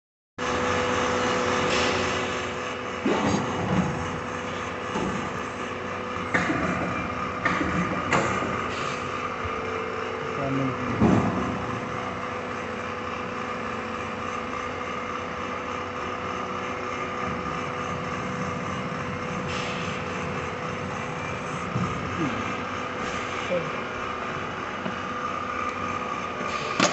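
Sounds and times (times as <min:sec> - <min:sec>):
machine humming: 0:00.4 - 0:26.9.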